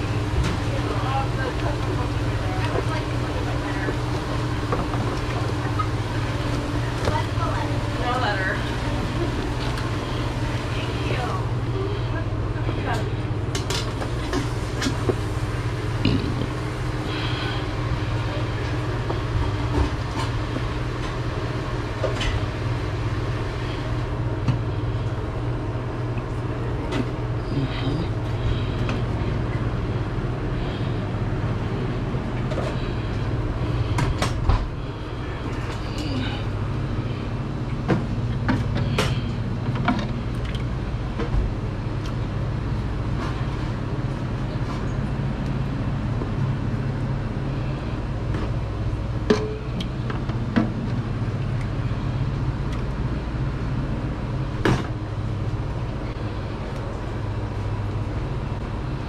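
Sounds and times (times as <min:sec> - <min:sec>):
low machine drone: 0:00.0 - 0:59.0.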